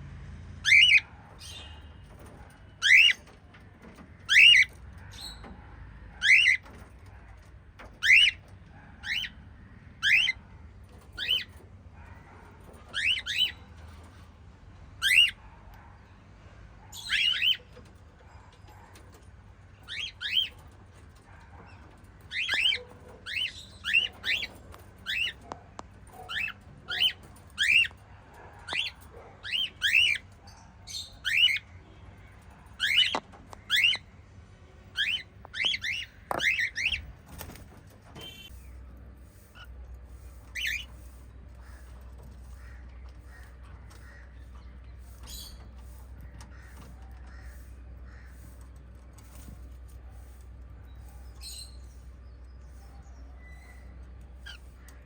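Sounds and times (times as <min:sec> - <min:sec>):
parrots chirping: 0:00.6 - 0:05.6, 0:06.2 - 0:07.1, 0:07.8 - 0:10.5, 0:11.1 - 0:14.2, 0:15.0 - 0:15.5, 0:16.9 - 0:17.9, 0:18.5 - 0:34.2, 0:34.9 - 0:55.0.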